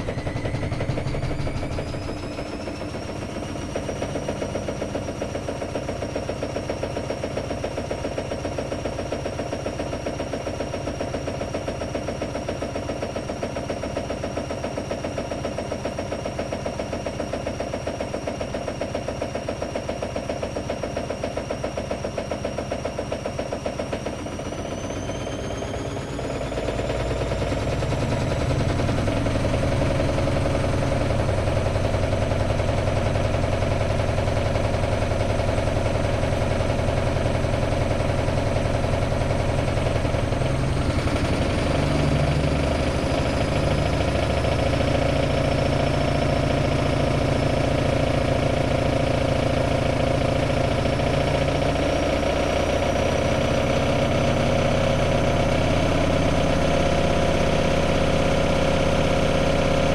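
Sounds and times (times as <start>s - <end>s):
washing machine drum motor: 0.0s - 59.9s.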